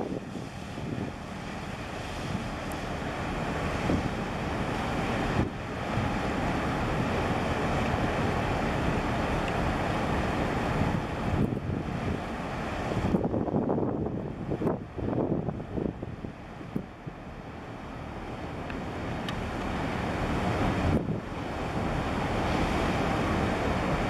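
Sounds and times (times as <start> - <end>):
wind buffeting microphone: 0.0 - 17.2, 18.8 - 24.0
churning water: 0.0 - 24.0.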